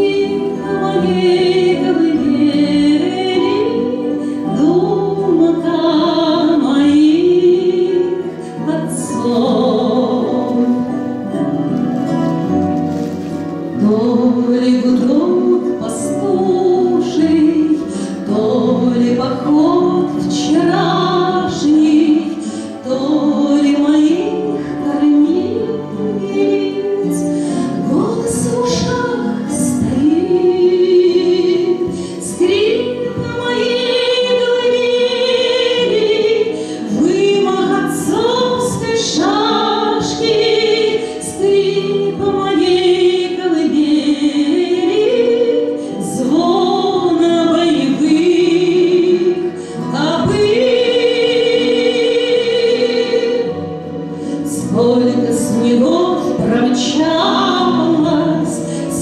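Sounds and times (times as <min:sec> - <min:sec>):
woman singing with vibrato: 0:00.0 - 0:11.7, 0:13.6 - 0:59.0
musical accompaniment: 0:00.0 - 0:59.0.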